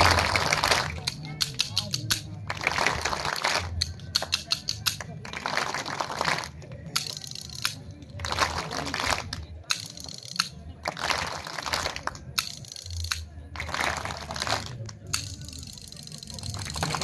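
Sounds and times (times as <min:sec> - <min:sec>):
wooden clappers with jingles clacking: 0:00.0 - 0:17.0.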